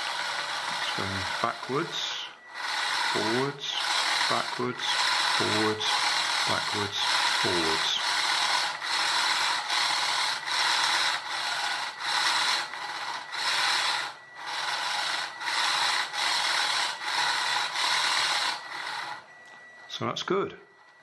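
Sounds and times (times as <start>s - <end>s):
small motor propeller buzzing: 0.0s - 19.9s.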